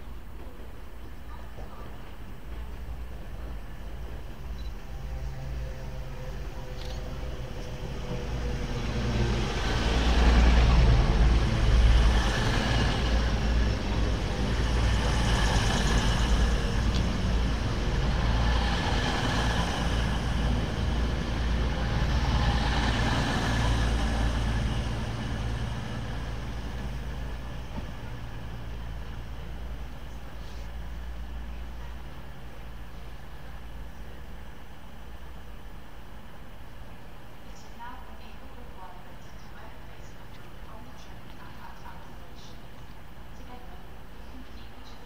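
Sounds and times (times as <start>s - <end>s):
diesel train passing: 1.9s - 45.0s.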